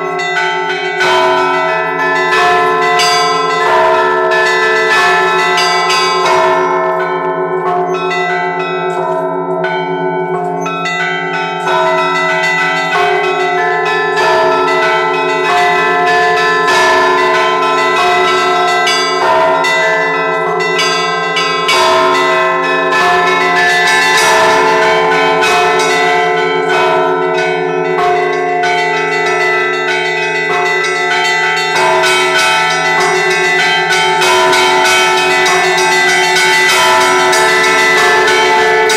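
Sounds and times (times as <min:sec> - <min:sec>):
large bell ringing: 0:00.0 - 0:38.9
small church bells pealing fast: 0:00.0 - 0:38.9.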